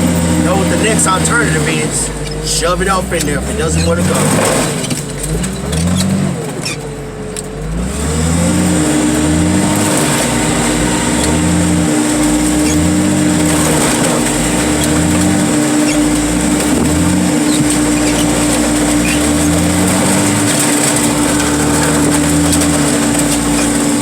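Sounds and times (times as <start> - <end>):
heavy machinery engine under load: 0.0 - 24.0.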